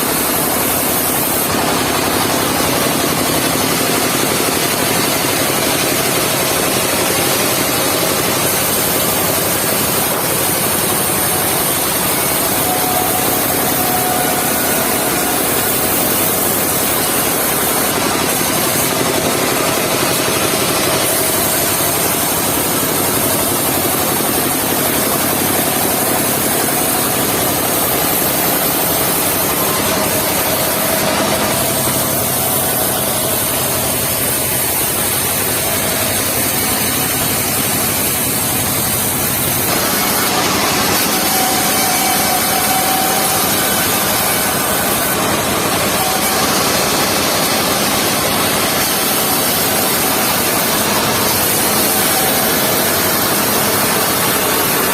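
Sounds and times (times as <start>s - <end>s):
sawmill engine and blade drone: 0.0s - 54.9s.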